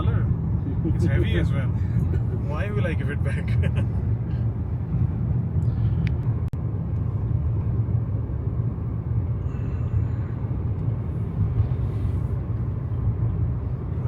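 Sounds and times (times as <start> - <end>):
car driving through tunnel rumble: 0.0 - 14.0.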